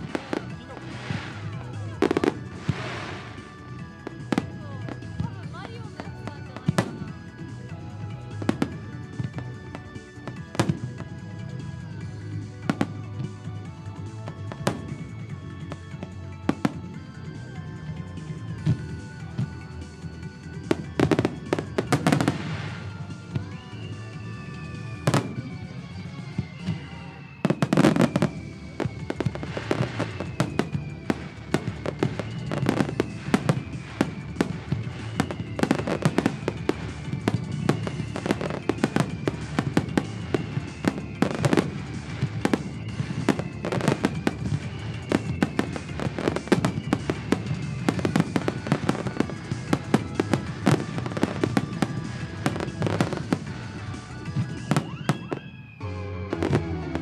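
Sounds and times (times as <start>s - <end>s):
crackling firework stars: 0.0s - 57.0s
firework shells exploding: 0.0s - 57.0s
music with falling tone: 0.0s - 57.0s.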